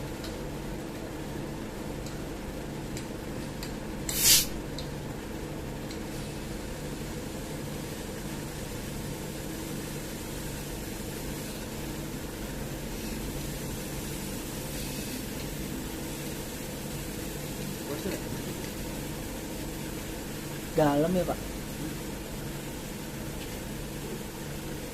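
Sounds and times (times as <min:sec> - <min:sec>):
air conditioner humming: 0:00.0 - 0:24.9
refrigerant gas hissing: 0:00.0 - 0:24.9.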